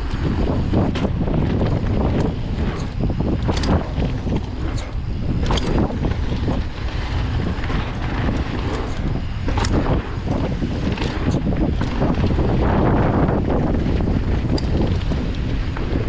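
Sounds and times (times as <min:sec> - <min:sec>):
bike clicks and rattles: 0:00.0 - 0:16.0
bike tyres rumbling on dirt: 0:00.0 - 0:16.0
wind buffeting microphone: 0:00.0 - 0:16.0.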